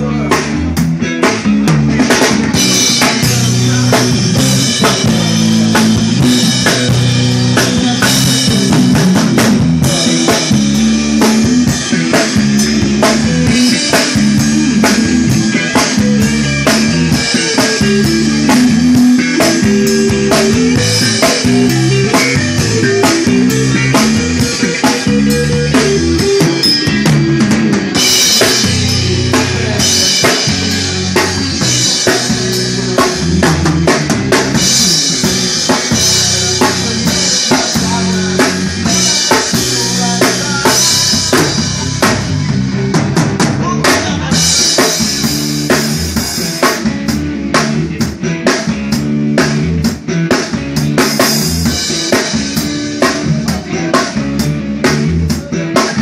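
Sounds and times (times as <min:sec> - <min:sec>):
bass line: 0:00.0 - 0:56.0
drum kit beat: 0:00.0 - 0:56.0
live band playing: 0:00.0 - 0:56.0.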